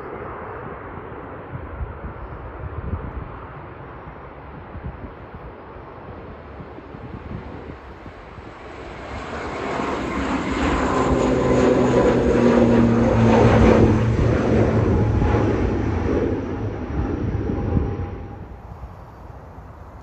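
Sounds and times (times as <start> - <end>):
airliner engines droning: 0.0 - 20.0.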